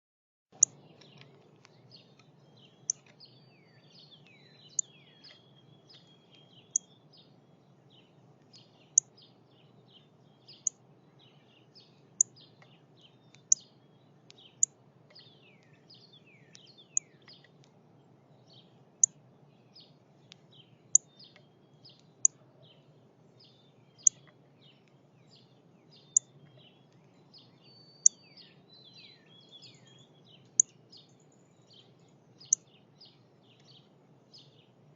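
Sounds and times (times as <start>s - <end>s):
other birds calling and singing: 0.6s - 34.9s.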